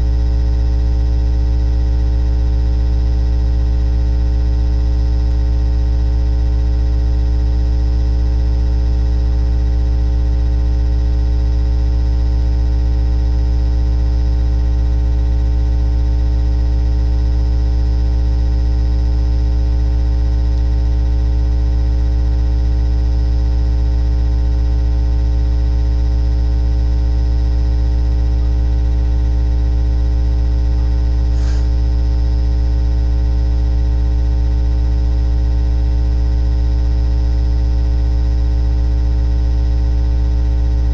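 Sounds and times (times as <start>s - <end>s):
electrical hum and buzz: 0.0s - 40.9s.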